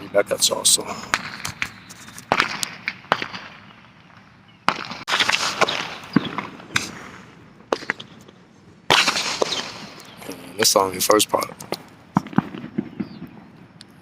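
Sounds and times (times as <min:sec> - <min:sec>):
fireworks bangs and cracks: 0:00.0 - 0:10.8, 0:11.4 - 0:13.5.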